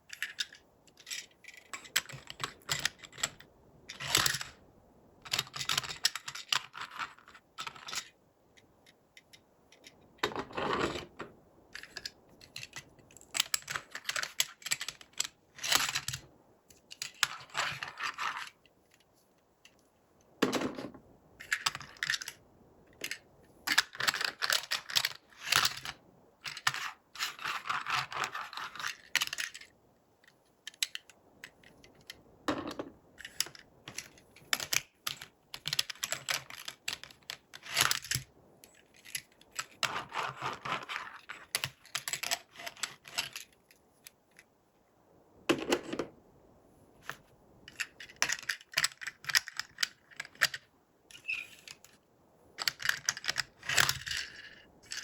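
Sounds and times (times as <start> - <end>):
plastic toys clicking and rustling: 0.1 - 4.6, 5.2 - 44.5, 47.0 - 52.0, 52.6 - 55.0.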